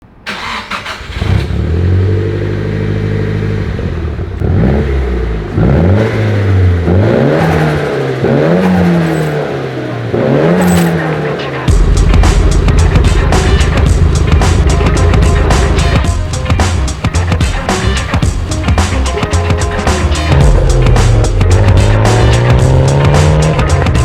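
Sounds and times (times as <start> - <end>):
car engine idling: 0.3 - 24.0
engine revving: 0.3 - 24.0
engine clatter: 2.9 - 24.0.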